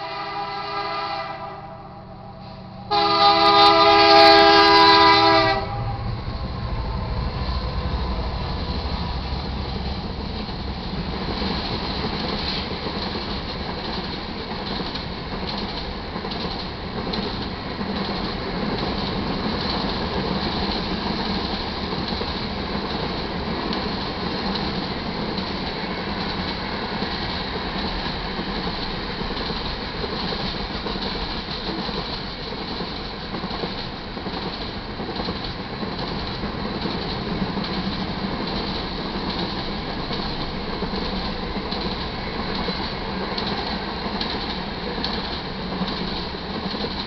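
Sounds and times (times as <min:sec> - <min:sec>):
freight train wheels rumbling on rails: 0:00.0 - 0:47.0.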